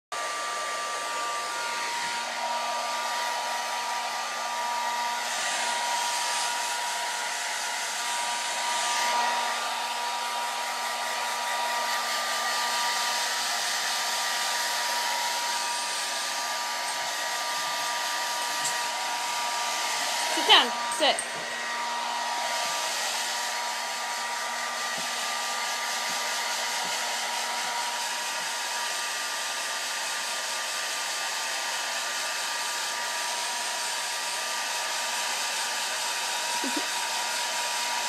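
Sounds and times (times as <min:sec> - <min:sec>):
hair dryer running: 0:00.2 - 0:38.0.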